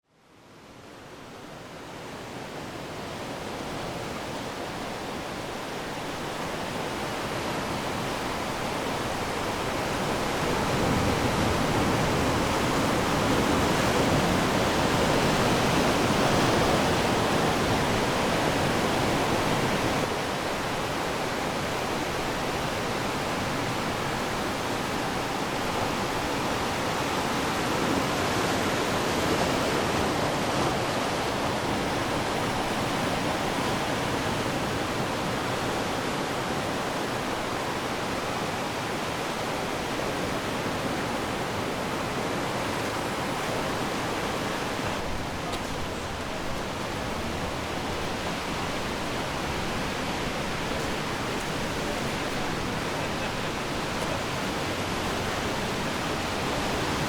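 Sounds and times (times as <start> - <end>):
ocean waves breaking on shore: 0.4 - 57.0.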